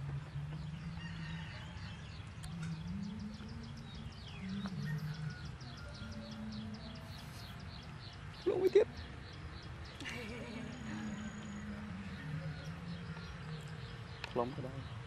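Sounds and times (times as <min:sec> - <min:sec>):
low hum shifting in pitch: 0:00.0 - 0:15.0.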